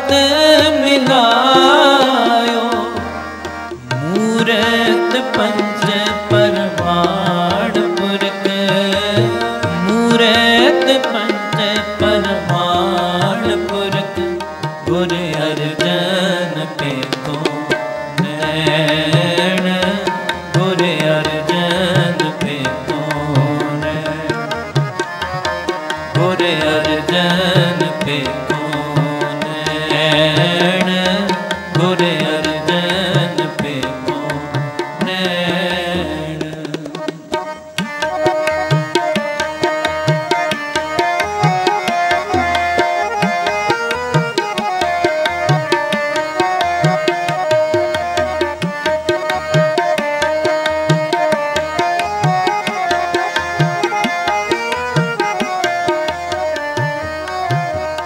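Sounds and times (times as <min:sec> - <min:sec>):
harmonium chords: 0:00.0 - 0:58.0
tabla rhythm: 0:00.0 - 0:58.0
voices singing: 0:00.0 - 0:58.0.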